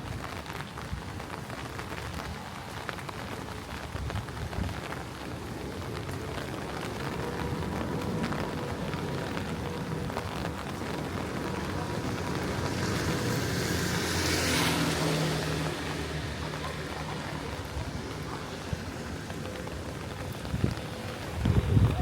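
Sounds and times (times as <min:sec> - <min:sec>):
steady rain: 0:00.0 - 0:22.0
vehicle passing on wet road: 0:00.0 - 0:22.0.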